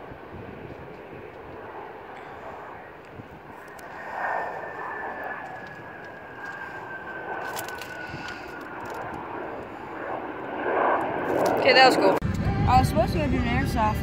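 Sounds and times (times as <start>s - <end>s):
jet engines with high whine: 0.0s - 14.0s.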